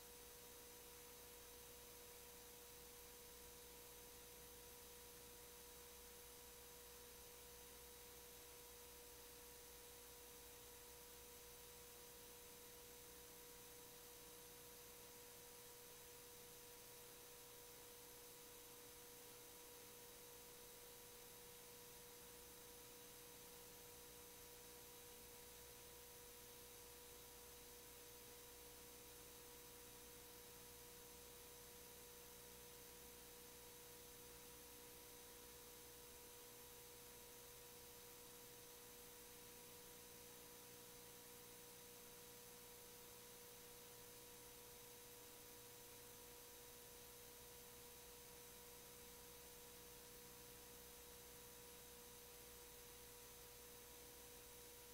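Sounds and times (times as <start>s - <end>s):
faint steady tone: 0.0s - 54.9s.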